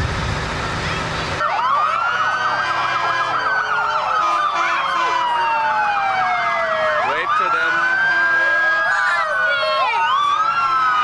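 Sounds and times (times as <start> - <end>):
fire truck sirens: 0.0 - 11.0.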